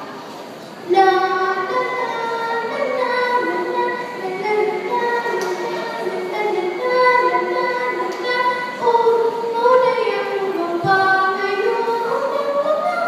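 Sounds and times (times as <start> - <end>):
woman singing: 0.9 - 13.0.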